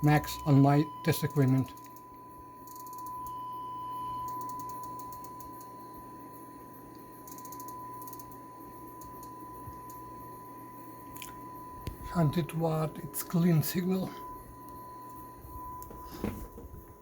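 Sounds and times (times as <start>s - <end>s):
sine test tone: 0.0s - 17.0s.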